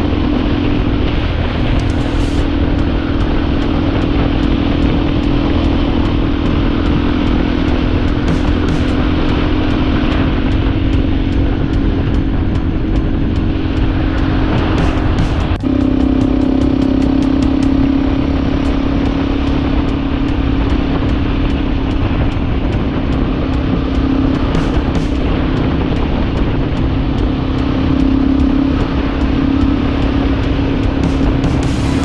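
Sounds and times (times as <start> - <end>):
dirt bike engine cruising: 0.0 - 32.0
wind rushing over microphone: 0.0 - 32.0.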